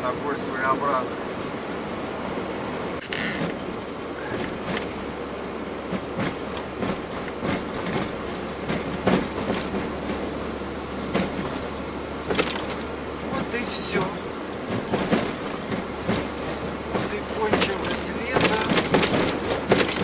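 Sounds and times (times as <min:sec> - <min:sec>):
road and engine noise in van: 0:00.0 - 0:20.0
knocks and rattles: 0:03.0 - 0:05.1, 0:05.8 - 0:20.0.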